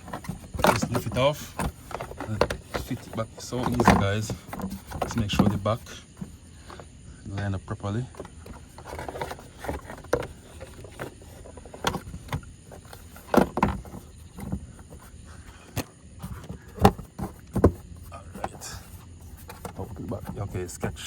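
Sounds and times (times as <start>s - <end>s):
plastic cover knocks and clunks: 0.0s - 6.8s, 8.1s - 20.6s.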